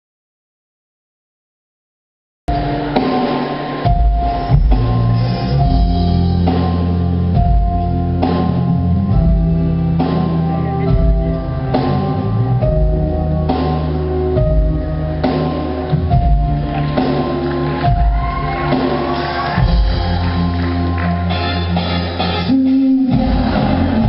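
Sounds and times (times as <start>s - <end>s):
bass guitar: 2.5s - 24.0s
drum kit beat: 2.5s - 24.0s
guitar: 2.5s - 24.0s.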